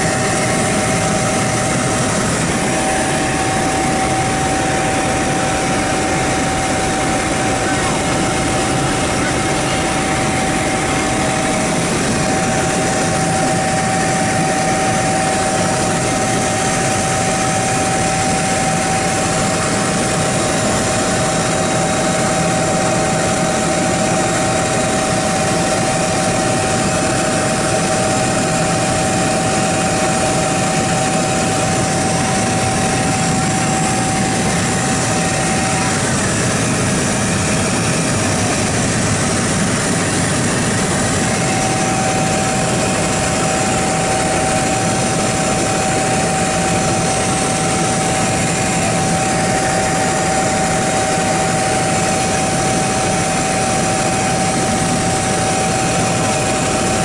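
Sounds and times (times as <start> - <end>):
helicopter engine and rotors: 0.0 - 57.0
high engine whine: 0.0 - 57.0.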